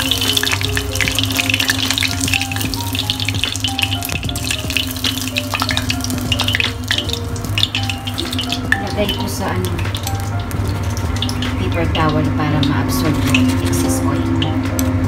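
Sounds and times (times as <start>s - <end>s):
chicken deep-frying in hot oil: 0.0s - 15.0s.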